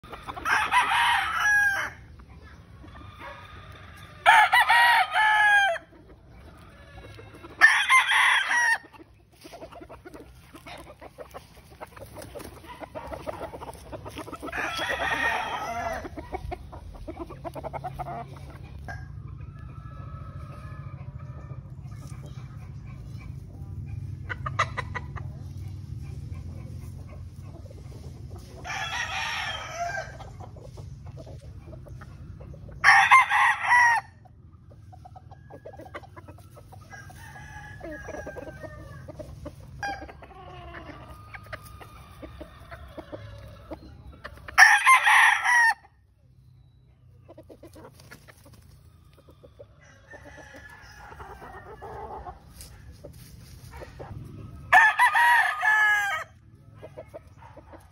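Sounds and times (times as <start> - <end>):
roosters crowing: 0.0 - 23.0, 23.6 - 46.2, 47.4 - 57.9
chickens clucking: 0.0 - 57.9.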